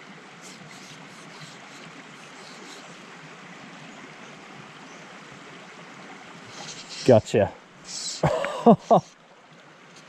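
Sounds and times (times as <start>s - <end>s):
stream water flowing: 0.0s - 10.0s.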